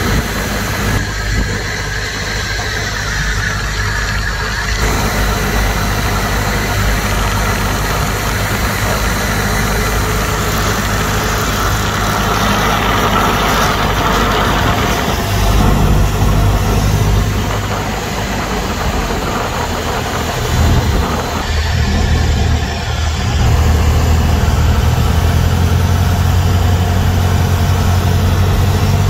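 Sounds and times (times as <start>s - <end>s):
airplane engine and propeller drone: 0.0s - 29.0s.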